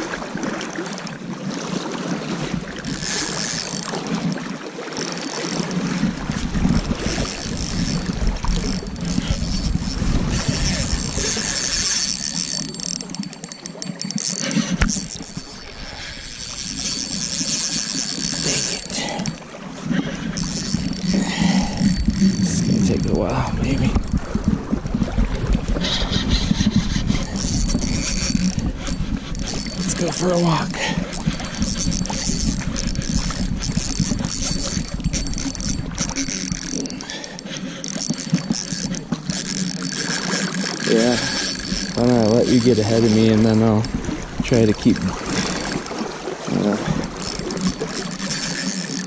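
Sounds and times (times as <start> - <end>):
fishing reel clicking fast: 0.0 - 49.0
river water flowing: 0.0 - 49.0.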